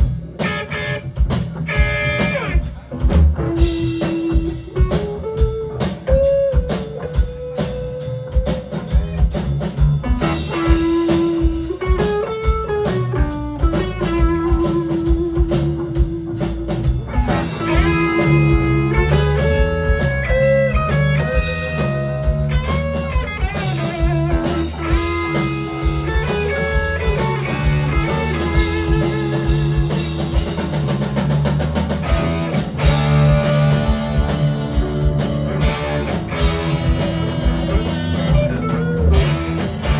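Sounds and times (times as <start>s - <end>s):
bass and drum kit: 0.0s - 39.9s
lead electric guitar: 0.0s - 39.9s.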